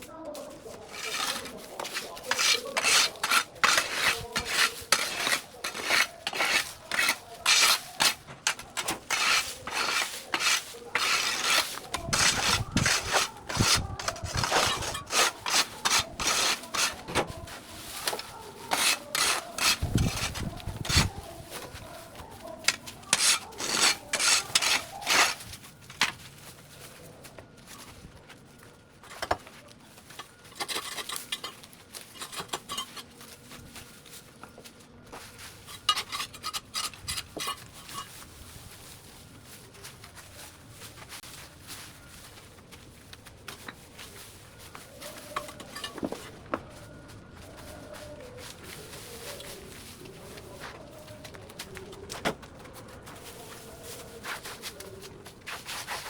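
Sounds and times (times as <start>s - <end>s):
scraping strokes: 0.0s - 27.2s, 35.2s - 52.2s, 53.0s - 56.0s.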